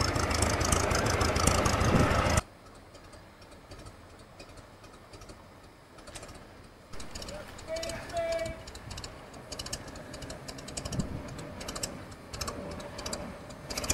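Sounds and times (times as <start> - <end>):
locomotive engine clattering: 0.0 - 13.9.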